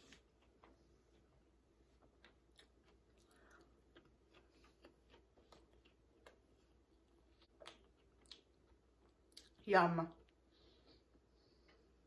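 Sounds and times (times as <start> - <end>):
person chewing softly: 0.0 - 12.0.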